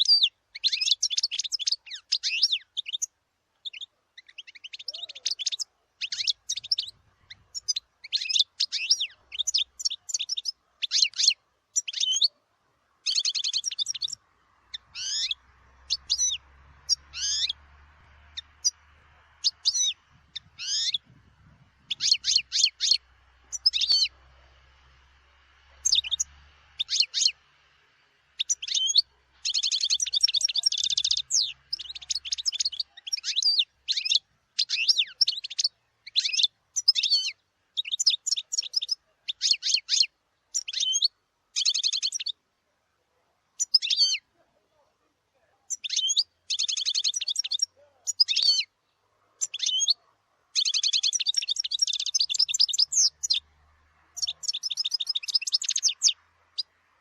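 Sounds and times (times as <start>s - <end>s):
goldfinch twittering song: 0.0s - 12.3s, 13.0s - 25.1s, 25.7s - 27.4s, 28.3s - 42.4s, 43.6s - 44.3s, 45.7s - 48.7s, 49.4s - 53.5s, 54.1s - 56.7s.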